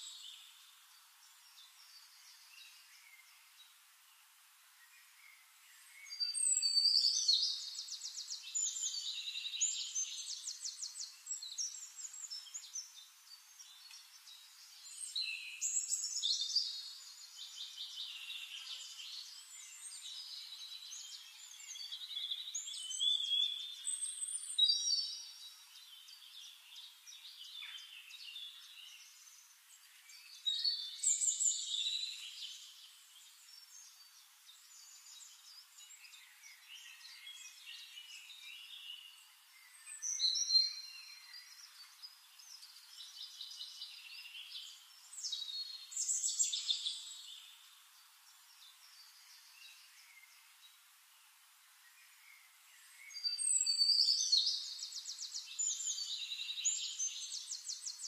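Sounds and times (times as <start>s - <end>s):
songbird trills and whistles: 4.9s - 32.9s, 33.5s - 47.6s, 52.0s - 58.0s.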